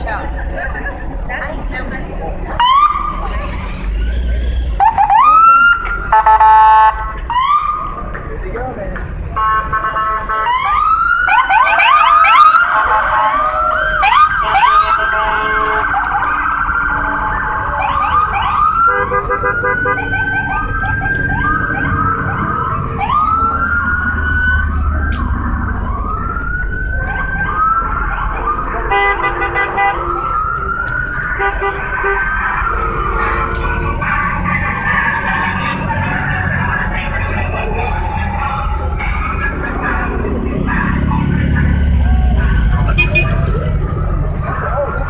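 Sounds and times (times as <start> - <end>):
car engines rumbling: 0.0 - 45.0
electronic police sirens wailing: 2.5 - 8.0, 10.4 - 45.0.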